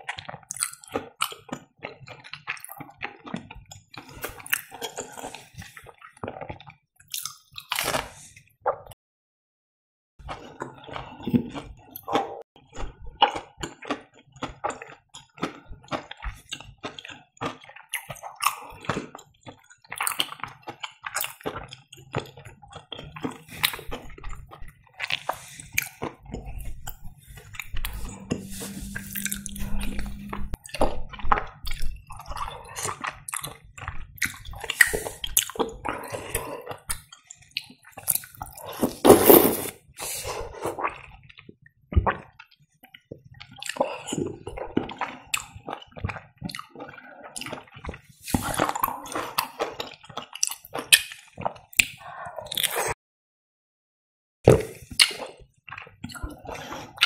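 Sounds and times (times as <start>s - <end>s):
chewing with mouth clicks: 0.0s - 8.1s, 10.3s - 38.8s, 40.2s - 53.0s, 54.7s - 57.0s.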